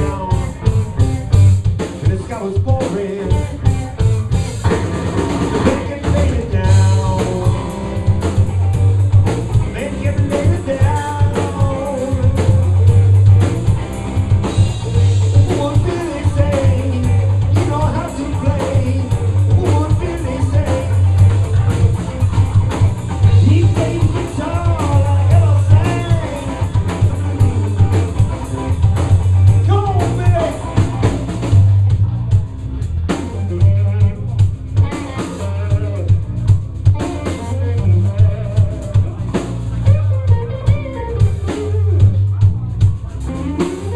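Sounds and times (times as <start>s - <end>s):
live blues band playing: 0.0s - 43.9s.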